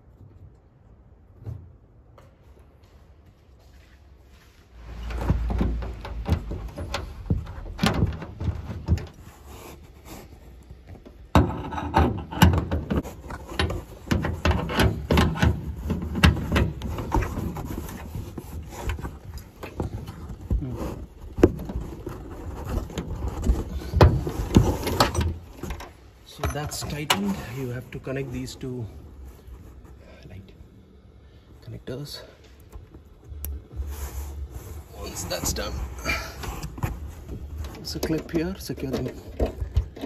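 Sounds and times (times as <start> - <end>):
hand rubbing and scraping headliner: 2.8 - 30.6, 33.0 - 40.0.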